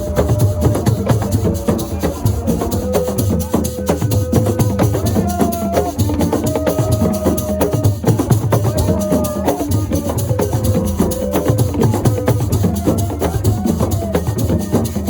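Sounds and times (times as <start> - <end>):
fast dense drumming: 0.0 - 15.0
shaker rattling: 0.0 - 15.0.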